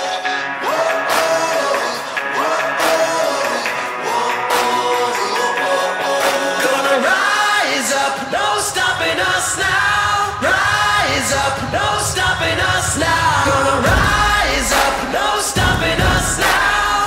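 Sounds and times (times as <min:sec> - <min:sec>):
song with vocals over beat: 0:00.0 - 0:17.0.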